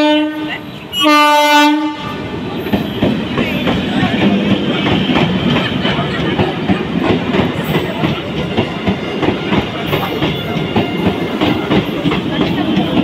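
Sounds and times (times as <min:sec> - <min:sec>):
electric train passing at speed: 0:00.0 - 0:13.0.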